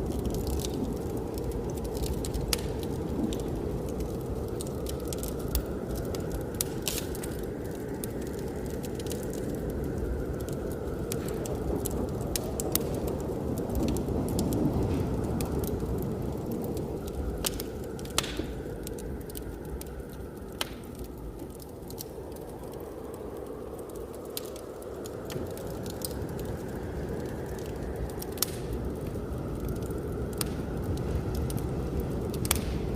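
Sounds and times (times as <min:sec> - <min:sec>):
blizzard wind roaring: 0:00.0 - 0:32.9
wood fire crackling: 0:00.0 - 0:32.9.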